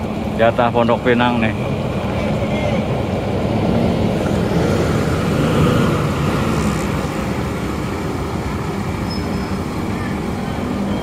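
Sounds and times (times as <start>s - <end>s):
diesel bus engine rumbling: 0.0s - 11.0s.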